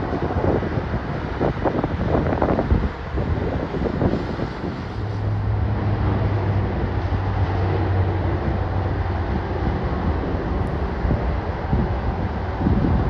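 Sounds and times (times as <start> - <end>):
jet engines rumbling: 0.0 - 13.0
wind on microphone: 0.0 - 13.0.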